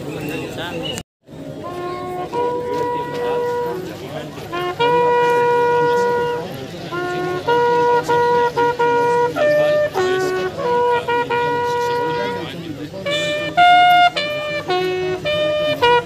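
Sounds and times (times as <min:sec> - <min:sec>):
bugle call: 0:01.6 - 0:16.0.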